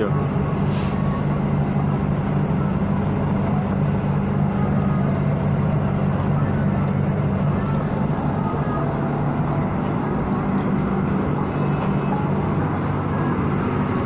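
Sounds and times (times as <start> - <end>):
ship engine droning: 0.0 - 14.0.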